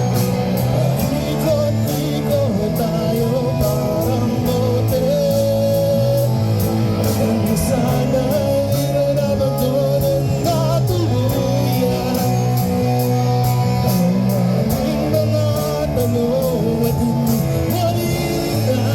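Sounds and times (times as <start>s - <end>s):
bass guitar: 0.0s - 18.9s
guitar: 0.0s - 18.9s
person singing: 0.0s - 18.9s
steady drum beat: 0.0s - 18.9s.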